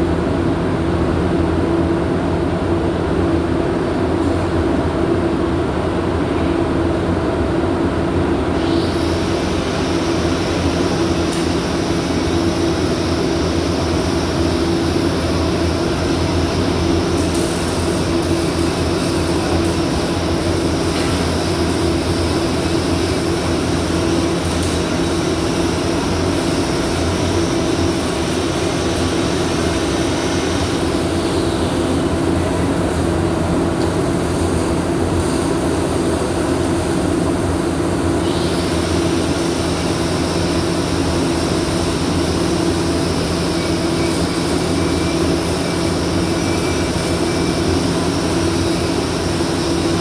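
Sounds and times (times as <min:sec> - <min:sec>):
welding equipment hum: 0:00.0 - 0:50.0
welding arc hissing: 0:08.5 - 0:50.0.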